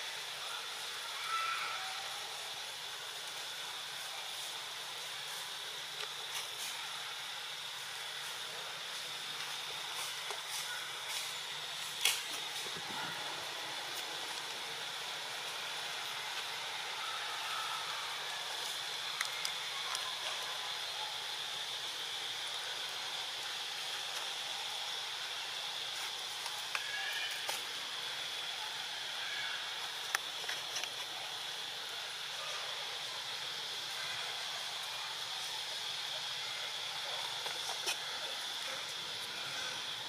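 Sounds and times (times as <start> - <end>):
high-pitched outdoor hiss: 0.0 - 40.0.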